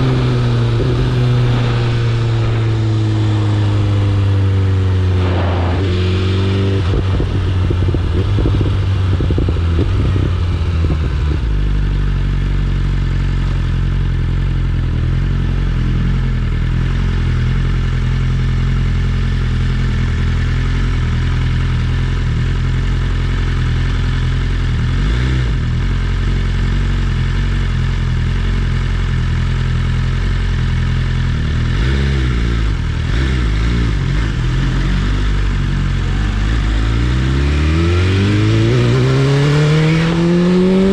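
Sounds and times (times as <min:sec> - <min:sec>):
motorcycle engine riding: 0:00.0 - 0:40.9.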